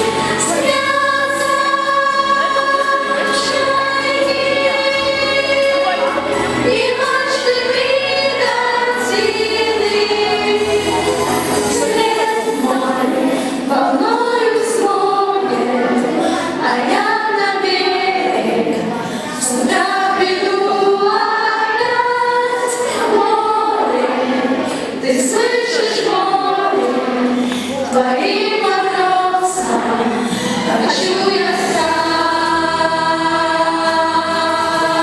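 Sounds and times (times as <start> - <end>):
children's choir singing: 0.0 - 35.0.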